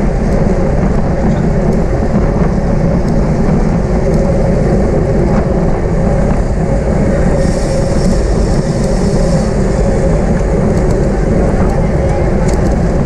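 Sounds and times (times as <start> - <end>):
bicycle tyre rumble on road: 0.0 - 13.0
wind buffeting microphone: 0.0 - 13.0.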